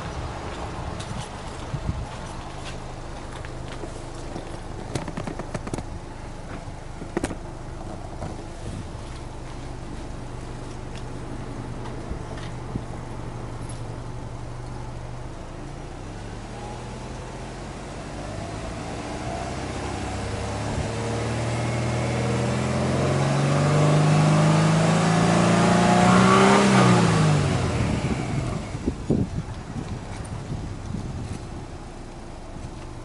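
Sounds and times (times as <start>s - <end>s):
car engine revving: 3.4s - 33.0s.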